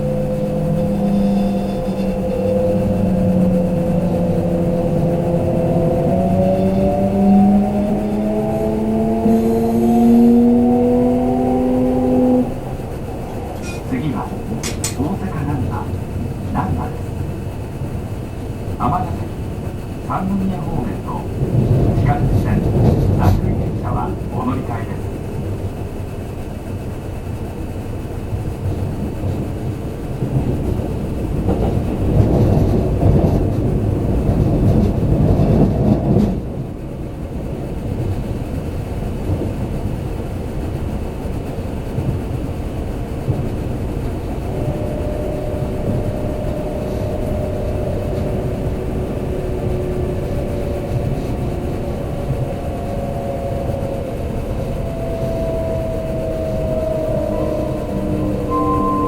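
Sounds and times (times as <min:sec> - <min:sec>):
faint steady tones: 0:00.0 - 0:59.0
train wheels rumbling: 0:00.0 - 0:59.0.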